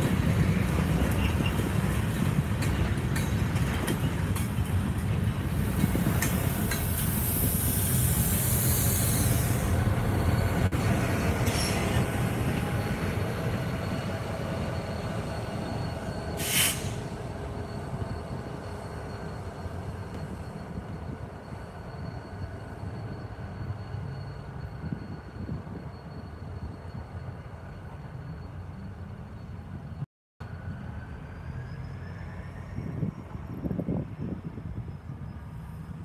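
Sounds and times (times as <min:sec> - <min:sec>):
freight train rumbling past: 0:00.0 - 0:36.0
high wheel squeal: 0:06.4 - 0:36.0.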